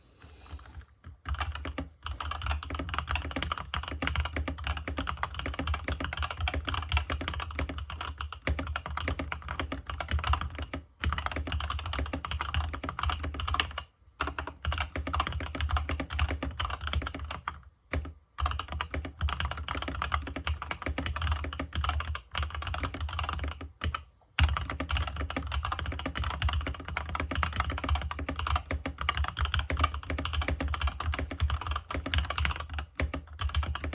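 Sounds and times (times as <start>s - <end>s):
mechanical keyboard typing: 0.7s - 33.9s.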